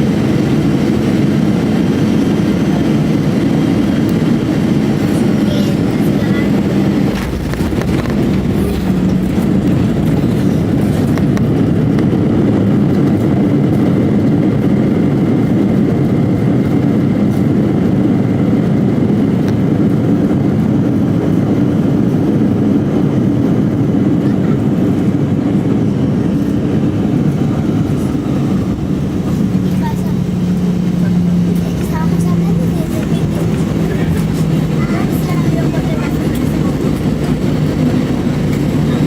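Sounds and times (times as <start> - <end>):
jet engines and airflow rumble: 0.0 - 39.0.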